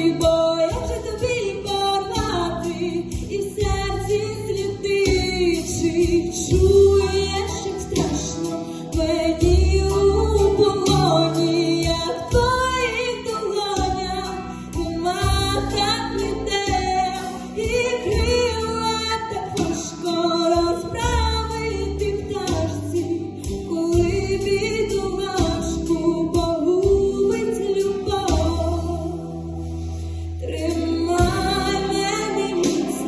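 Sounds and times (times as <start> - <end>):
woman singing: 0.0 - 29.4, 30.4 - 33.0
instrumental backing with bass and beat: 0.0 - 33.0.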